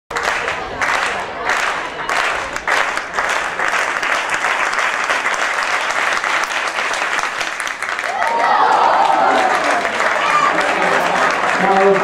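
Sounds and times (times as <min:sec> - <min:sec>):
spectators applauding: 0:00.1 - 0:12.0.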